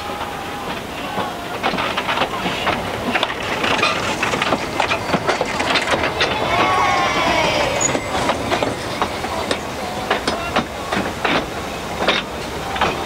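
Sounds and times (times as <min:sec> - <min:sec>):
train rumble: 0:00.0 - 0:13.0
train wheels clicking over rail joints: 0:00.0 - 0:13.0.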